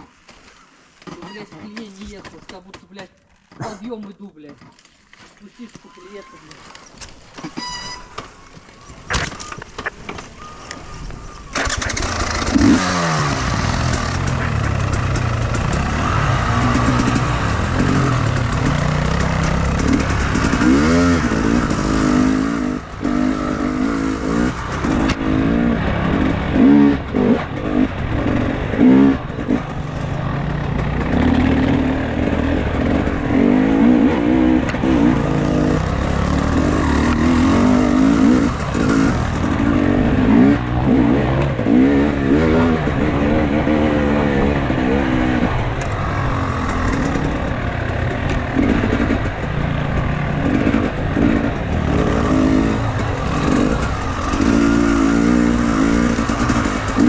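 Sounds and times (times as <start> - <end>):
motorcycle engine revving: 6.1 - 57.0.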